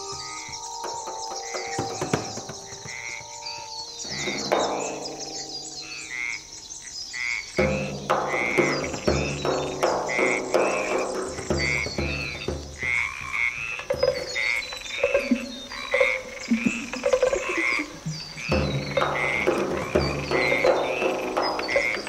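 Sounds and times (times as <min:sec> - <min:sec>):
frog-like croaking calls: 0:00.0 - 0:22.0.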